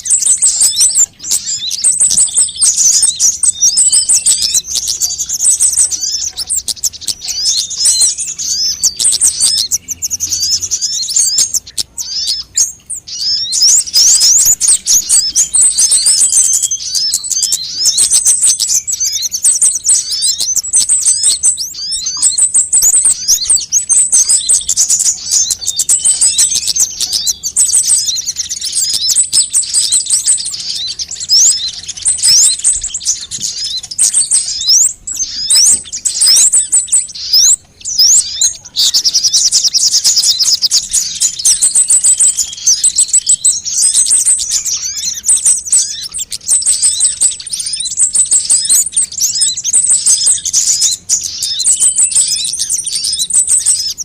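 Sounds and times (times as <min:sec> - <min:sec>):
birds chirping and trilling: 0:00.0 - 0:54.0
short high bird trill: 0:00.0 - 0:54.0.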